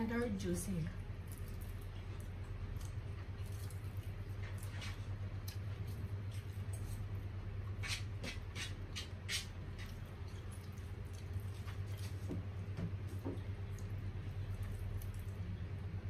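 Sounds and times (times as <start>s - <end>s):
steady low hum: 0.0s - 16.0s
person chewing: 1.2s - 7.2s, 7.8s - 15.6s.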